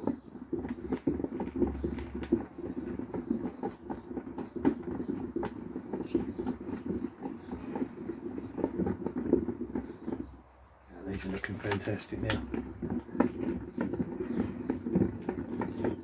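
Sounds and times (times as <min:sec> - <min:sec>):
baits rattling in plastic bucket: 0:00.0 - 0:16.0.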